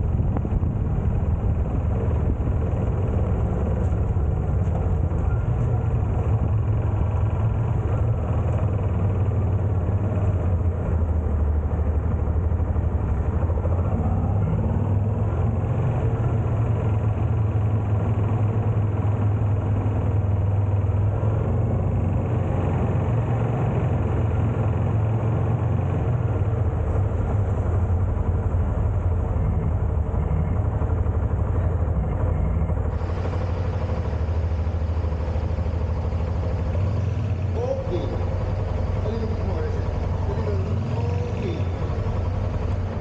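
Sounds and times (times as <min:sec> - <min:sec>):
motorcycle engine droning: 0:00.0 - 0:43.0
road and wind noise: 0:00.0 - 0:43.0.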